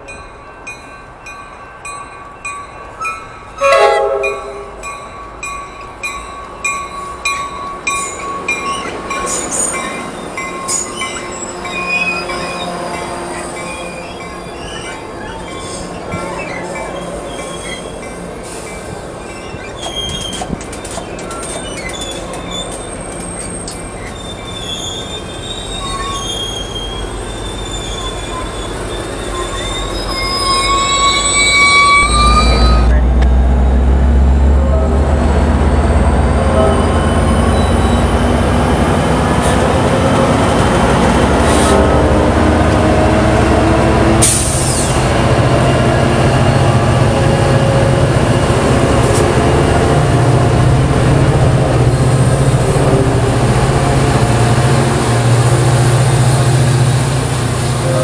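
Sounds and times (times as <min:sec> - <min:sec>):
diesel locomotive engine rumble: 0:00.0 - 0:58.0
train wheels squealing on rails: 0:01.7 - 0:33.9, 0:36.2 - 0:58.0.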